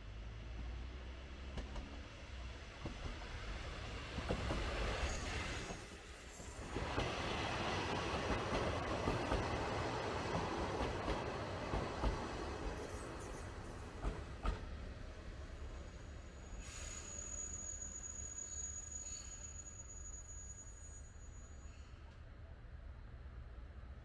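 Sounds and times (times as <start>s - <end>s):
diesel railcar rumbling past: 0.1s - 19.6s.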